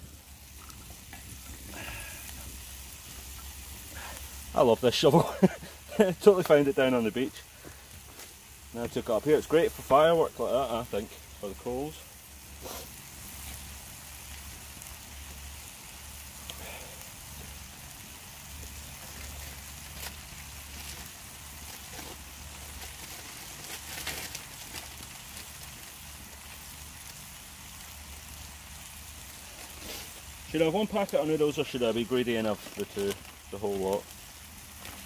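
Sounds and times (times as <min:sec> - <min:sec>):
campfire crackles: 0:00.0 - 0:35.0
food sizzling in a pan: 0:00.0 - 0:35.0.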